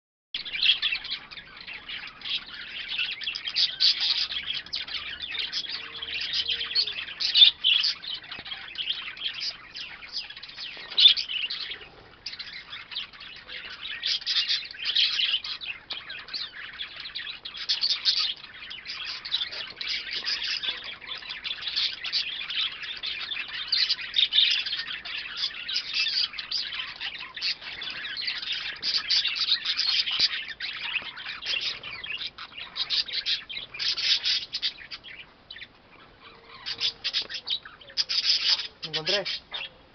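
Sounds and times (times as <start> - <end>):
flock of budgerigars chattering: 0.4 - 39.9.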